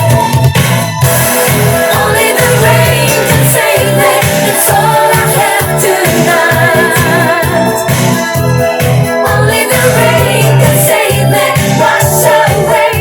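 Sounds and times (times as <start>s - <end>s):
pop song vocals: 0.0s - 13.0s
pulsing bass beat: 0.0s - 13.0s.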